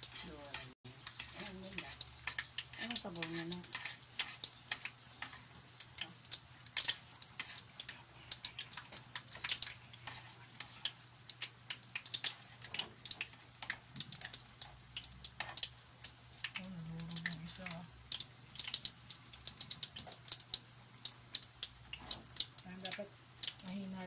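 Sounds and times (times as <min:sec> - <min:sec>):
fritters deep-frying in oil: 0:00.0 - 0:24.0
tongs turning food in pan: 0:00.0 - 0:24.0.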